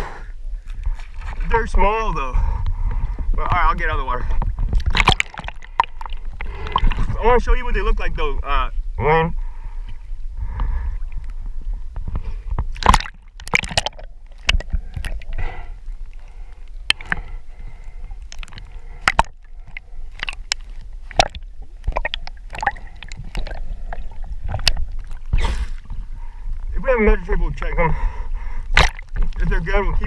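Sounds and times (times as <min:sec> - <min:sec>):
low rumble: 0:00.0 - 0:30.0
water sloshing and gurgling: 0:00.0 - 0:30.0.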